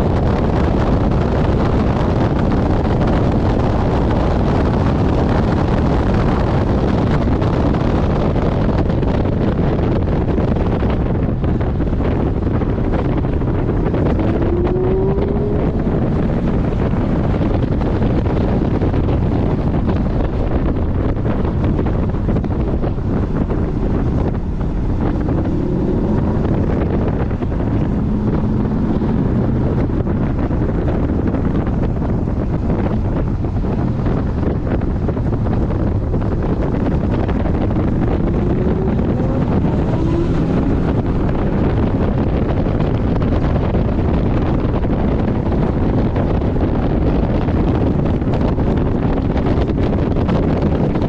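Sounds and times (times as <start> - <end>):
faint car engine: 0.0 - 51.0
wind buffeting microphone: 0.0 - 51.0.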